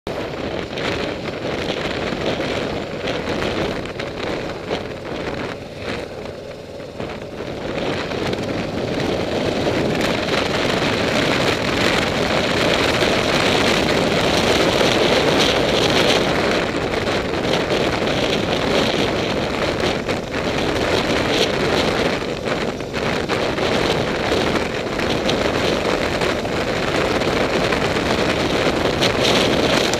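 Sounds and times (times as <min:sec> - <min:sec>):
motorcycle engine: 0:00.1 - 0:29.9
wind rushing over microphone: 0:00.1 - 0:29.9.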